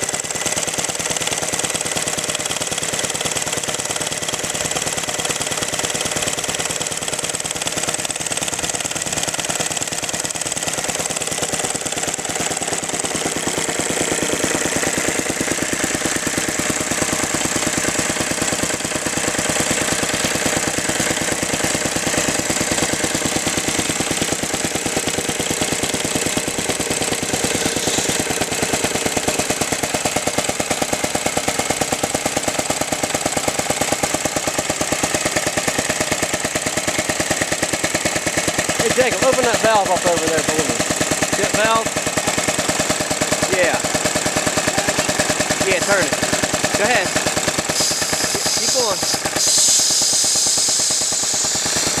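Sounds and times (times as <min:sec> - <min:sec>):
single-cylinder engine knocking: 0:00.0 - 0:52.0.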